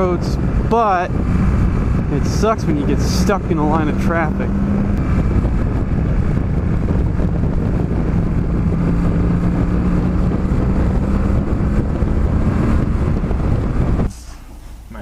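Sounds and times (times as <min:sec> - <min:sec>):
motorcycle engine running: 0:00.0 - 0:14.1
wind noise on microphone: 0:00.0 - 0:14.9.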